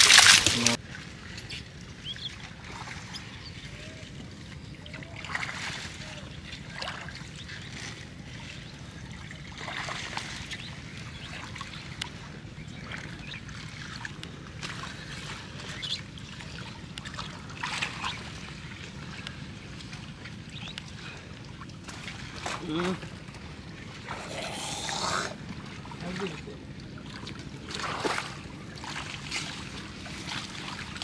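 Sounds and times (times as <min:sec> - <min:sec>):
water trickling and splashing: 0:00.0 - 0:31.0.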